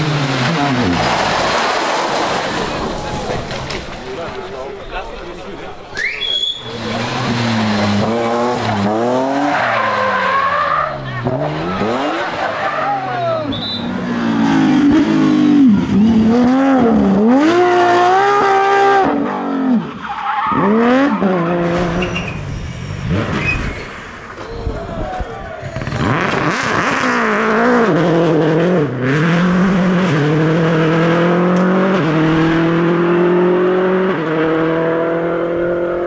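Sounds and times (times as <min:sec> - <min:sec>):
rally cars passing: 0:00.0 - 0:36.0.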